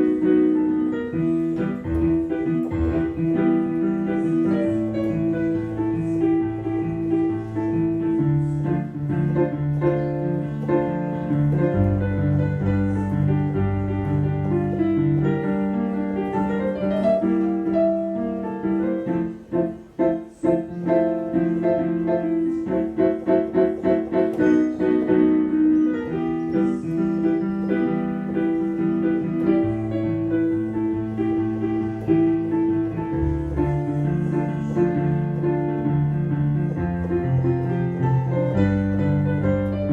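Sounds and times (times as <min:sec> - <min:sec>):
keyboard playing a dance tune: 0:00.0 - 0:39.9.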